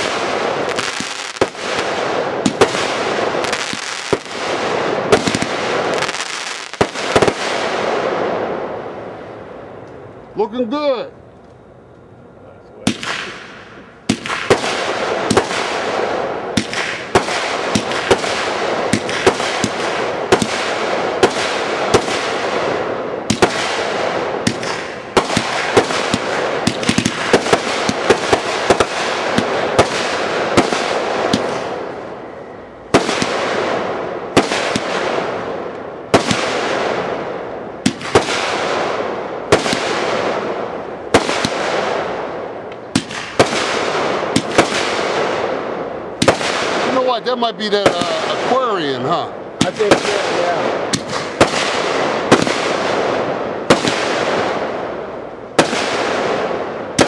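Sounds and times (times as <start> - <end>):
fireworks pops and bangs: 0.0 - 8.3, 12.8 - 31.9, 32.9 - 42.1, 42.7 - 45.6, 46.2 - 49.0, 49.6 - 54.8, 55.6 - 57.0
fireworks crackling: 0.0 - 11.6, 12.8 - 57.0.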